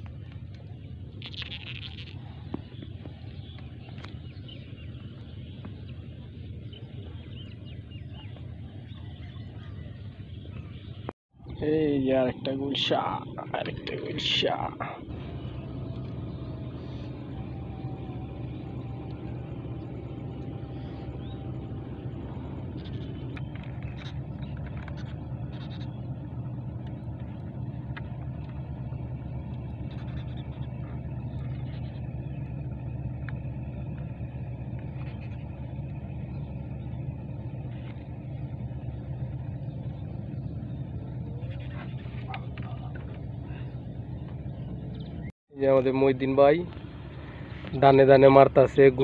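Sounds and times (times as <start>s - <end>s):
low engine hum: 0.0s - 49.0s.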